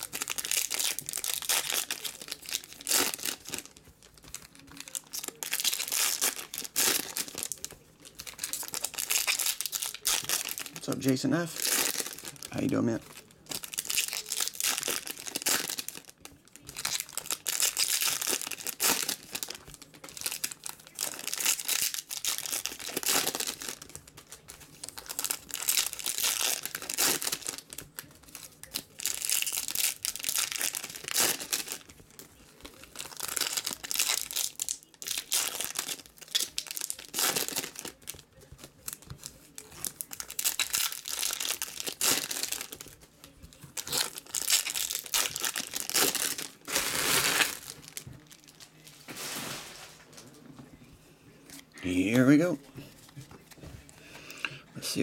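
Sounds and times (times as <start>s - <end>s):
foil wrappers crinkling and tearing: 0.0s - 50.3s.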